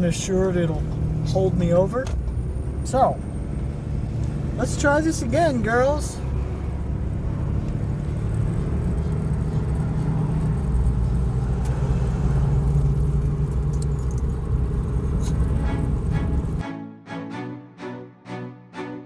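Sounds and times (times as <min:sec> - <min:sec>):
diesel truck engine droning: 0:00.0 - 0:16.6
road noise rumble: 0:00.0 - 0:16.6.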